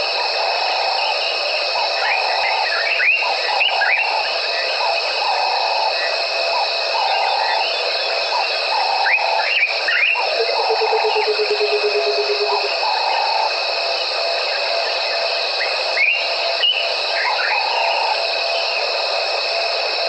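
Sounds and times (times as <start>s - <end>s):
high-pitched insect trilling: 0.0s - 20.0s.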